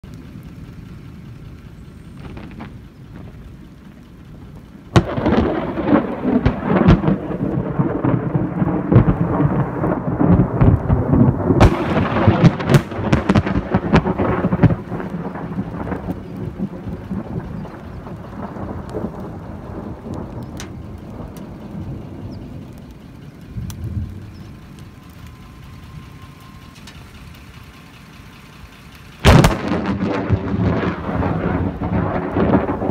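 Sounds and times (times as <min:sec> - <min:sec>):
thunder crack and rumble: 0:00.1 - 0:27.1, 0:29.2 - 0:32.9.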